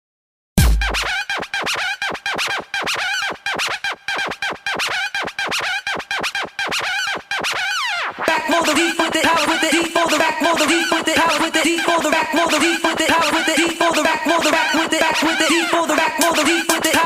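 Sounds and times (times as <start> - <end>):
turntable scratching: 0.6 - 17.0.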